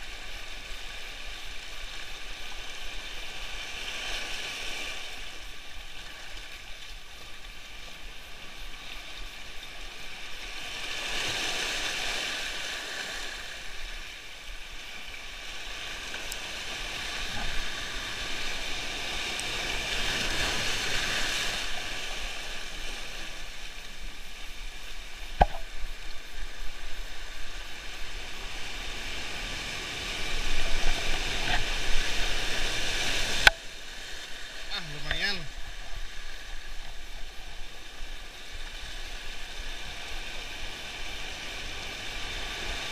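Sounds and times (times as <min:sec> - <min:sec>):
surf washing over shore: 0:00.0 - 0:42.9.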